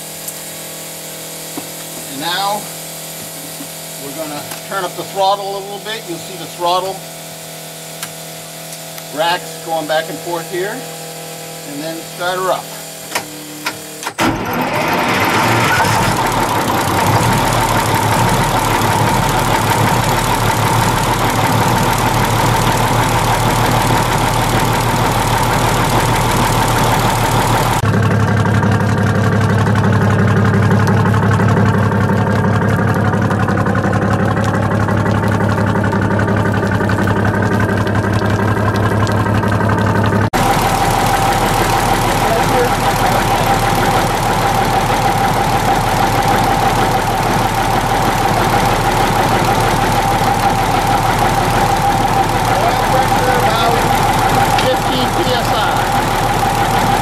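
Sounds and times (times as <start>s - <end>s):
diesel engine starting and running: 0.0s - 57.0s
engine hiss: 0.0s - 57.0s.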